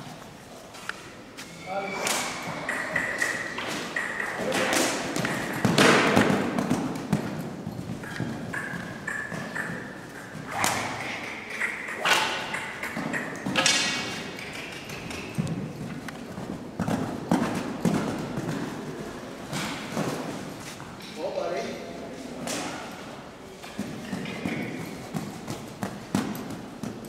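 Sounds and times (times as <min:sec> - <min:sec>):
horse hooves cantering indoors: 0:02.3 - 0:21.0, 0:22.9 - 0:27.0.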